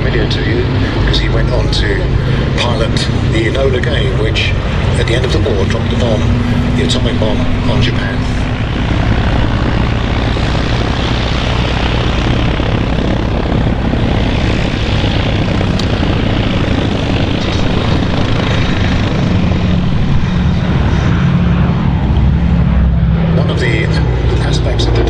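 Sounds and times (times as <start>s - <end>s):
propeller aircraft engines droning: 0.0s - 25.0s.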